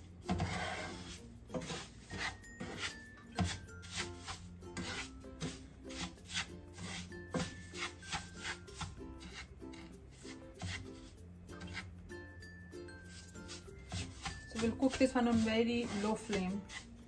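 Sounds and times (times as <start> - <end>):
spatula scraping sugar in pan: 0.0 - 12.0, 13.0 - 17.0.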